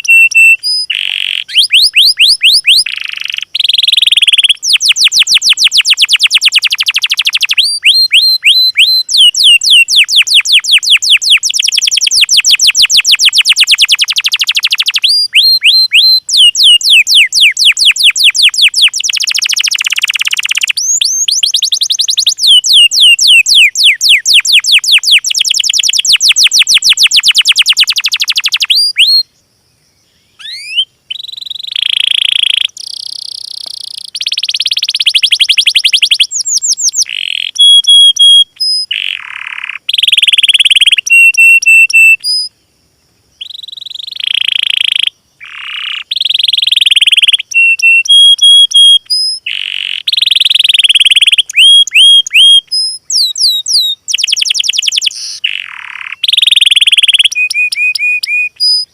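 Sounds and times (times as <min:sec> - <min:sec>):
songbird trilling: 0:00.0 - 0:29.4, 0:30.0 - 0:42.6, 0:43.4 - 0:58.9.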